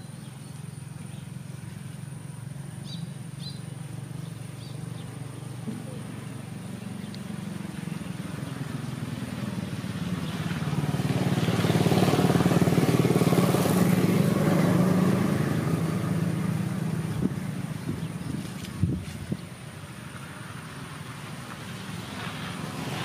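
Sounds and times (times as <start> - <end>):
vehicle engine passing by: 0.0 - 23.0.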